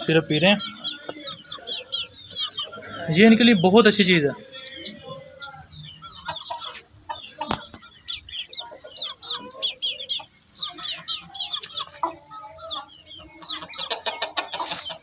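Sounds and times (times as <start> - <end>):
chicks peeping and clucking: 0.0 - 15.0.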